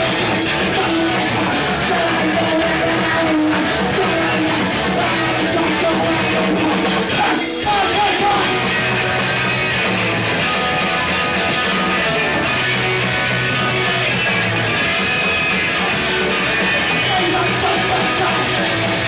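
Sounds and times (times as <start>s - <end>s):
punk band playing loud: 0.0s - 19.0s.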